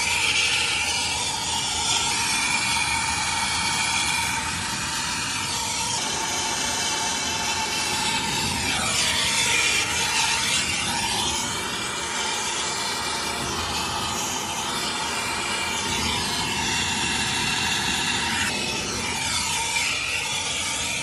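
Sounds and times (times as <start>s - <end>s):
torch flame hissing: 0.0s - 21.0s.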